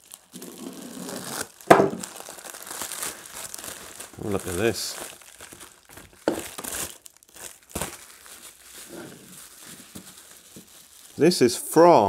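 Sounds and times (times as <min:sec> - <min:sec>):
sharp crackle: 0:00.0 - 0:11.3
bubble wrap crinkling: 0:00.0 - 0:12.0.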